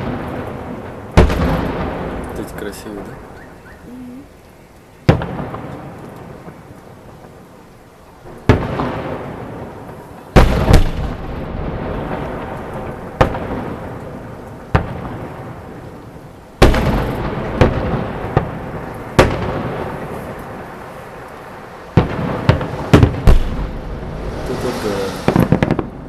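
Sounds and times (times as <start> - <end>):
fireworks bangs with echo: 0.0 - 3.4, 5.0 - 7.4, 8.2 - 26.0.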